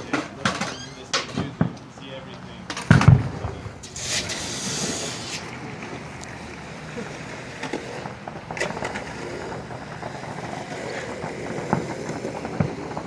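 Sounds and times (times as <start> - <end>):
distant fireworks popping: 0.0 - 13.0
rumbling background: 0.0 - 13.0.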